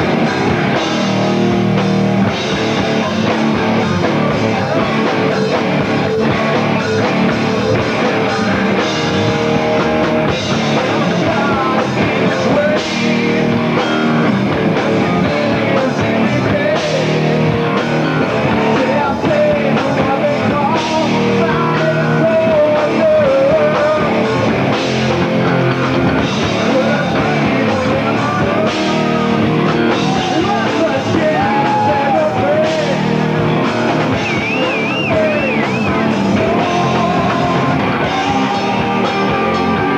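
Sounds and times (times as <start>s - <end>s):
bass: 0.0s - 39.9s
distorted electric guitars: 0.0s - 39.9s
drums: 0.0s - 39.9s
person singing: 2.5s - 24.6s, 26.2s - 39.9s.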